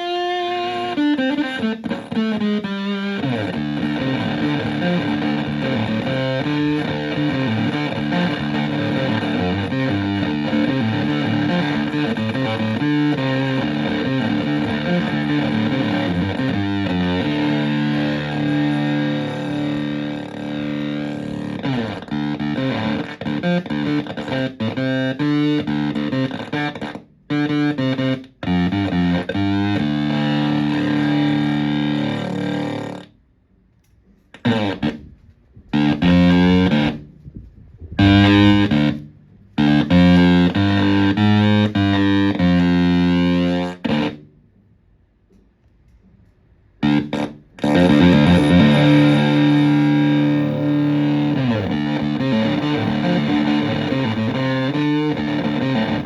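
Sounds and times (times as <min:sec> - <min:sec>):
fuzzed electric guitar: 0:00.0 - 0:33.2, 0:34.2 - 0:44.4, 0:46.7 - 0:56.0.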